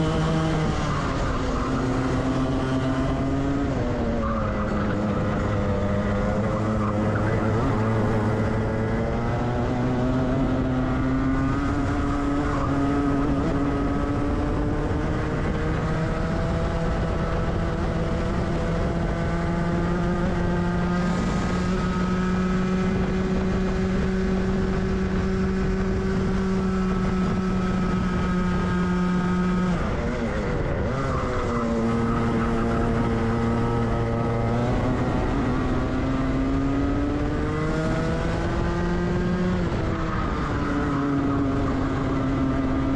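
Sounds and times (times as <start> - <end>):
kart engine revving: 0.0 - 42.9.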